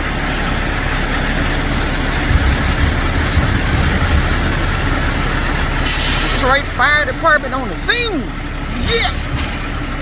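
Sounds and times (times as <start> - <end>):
heavy truck engine rumbling: 0.0 - 10.0.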